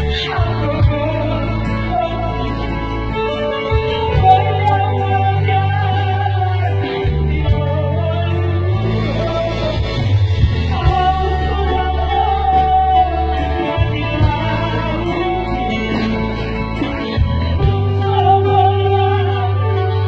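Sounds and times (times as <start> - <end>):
guitar: 0.0 - 20.0
person singing: 0.0 - 20.0
sustained bass notes: 0.0 - 20.0.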